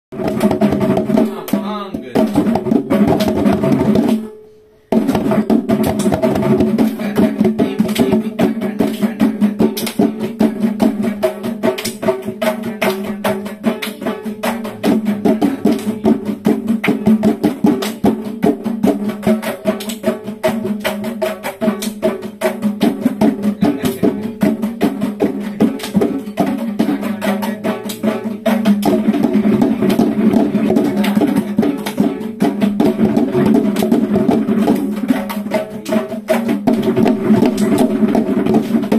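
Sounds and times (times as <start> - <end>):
hand drums playing fast rhythm: 0.1 - 38.9.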